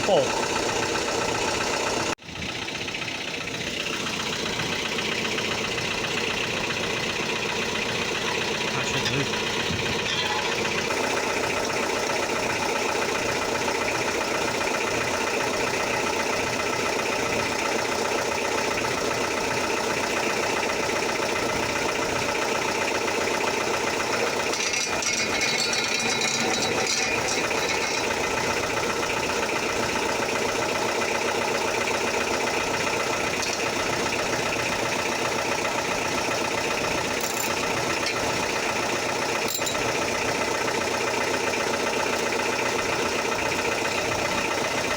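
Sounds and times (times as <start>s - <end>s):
engine idling through exhaust: 0.0s - 44.9s.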